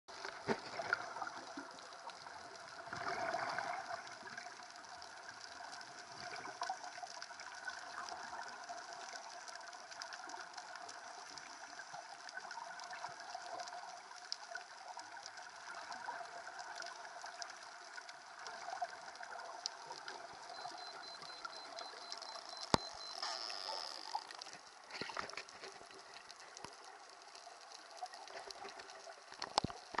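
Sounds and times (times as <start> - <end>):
faint crackles and ticks: 0.1 - 30.0.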